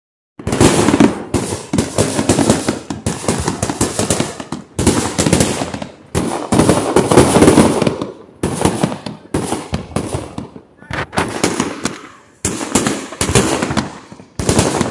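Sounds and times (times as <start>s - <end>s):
fireworks bangs and crackles: 0.4s - 14.9s.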